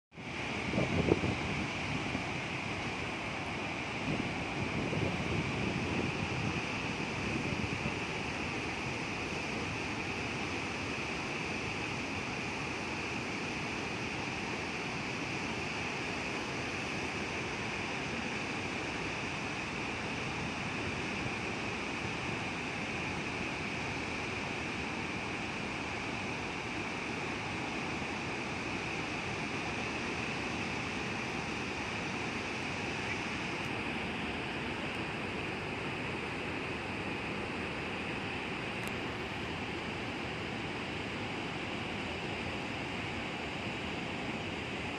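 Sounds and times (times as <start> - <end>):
waterfall rushing: 0.2 - 44.9.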